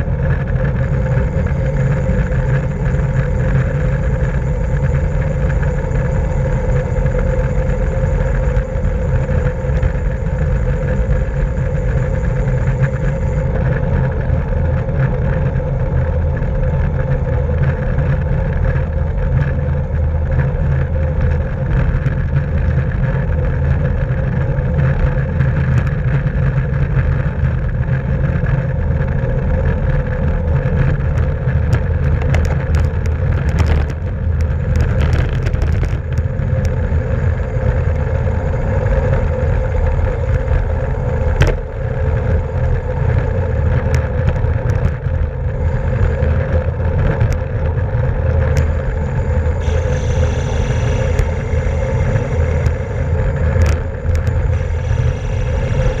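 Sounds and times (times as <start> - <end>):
thin high whine: 0.0 - 28.2, 29.1 - 56.0
road rumble: 0.0 - 56.0
wind on microphone: 0.0 - 56.0.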